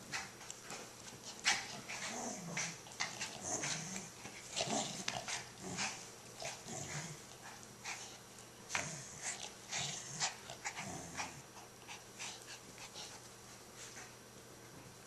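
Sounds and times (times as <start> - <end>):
dogs play growling: 0.0 - 14.0.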